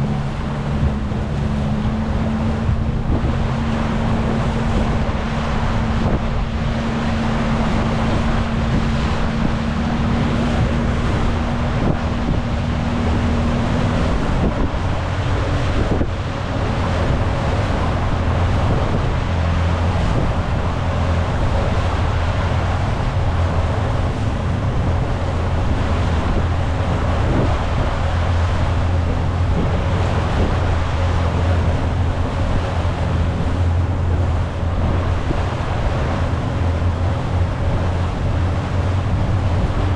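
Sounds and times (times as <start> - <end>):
speedboat engine drone: 0.0 - 39.9
water rushing past hull: 0.0 - 39.9
wind buffeting microphone: 0.0 - 39.9.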